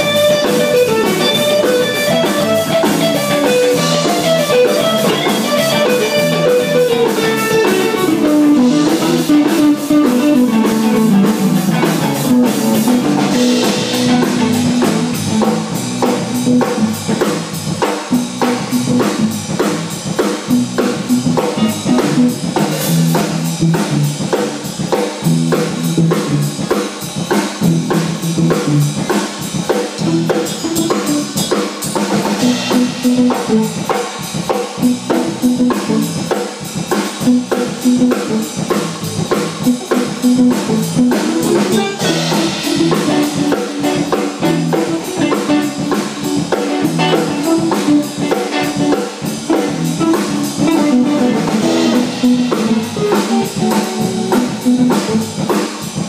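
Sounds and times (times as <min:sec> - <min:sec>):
drum kit beat: 0:00.0 - 0:56.0
guitar: 0:00.0 - 0:56.0.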